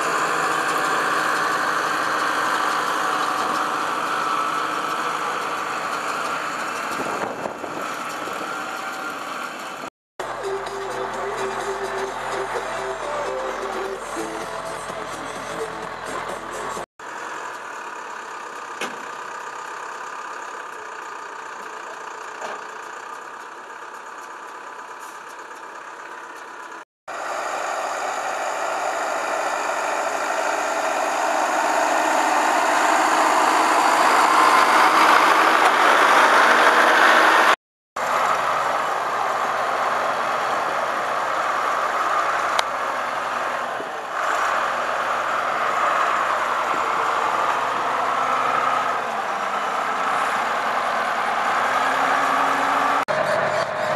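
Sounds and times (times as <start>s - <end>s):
tractor diesel engine: 0.0s - 53.9s.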